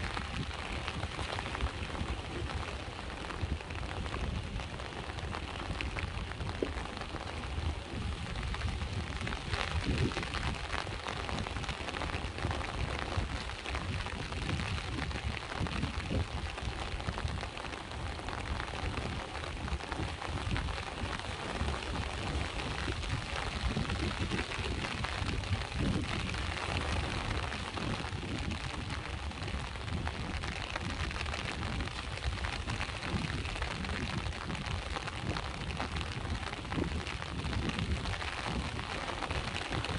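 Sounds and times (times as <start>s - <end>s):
low rumble of sea waves: 0.0s - 39.9s
rain falling: 0.0s - 39.9s.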